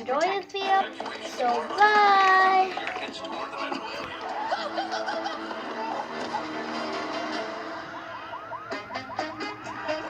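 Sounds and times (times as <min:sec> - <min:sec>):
music with held tones: 0:00.8 - 0:10.0.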